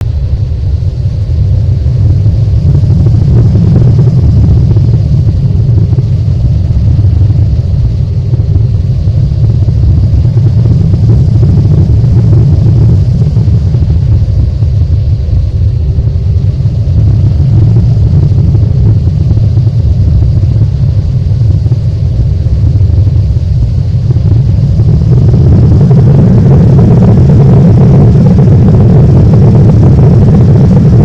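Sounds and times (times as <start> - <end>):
airflow noise: 0.0 - 31.0
airliner cabin engine rumble: 0.0 - 31.0.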